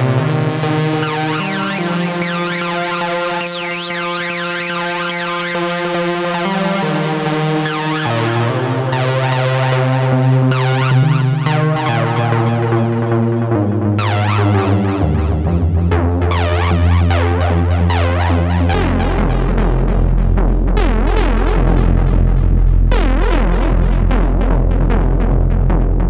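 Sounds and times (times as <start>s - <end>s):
synthesizer bass line: 0.0s - 26.0s
synthesizer sustained chords: 0.0s - 26.0s.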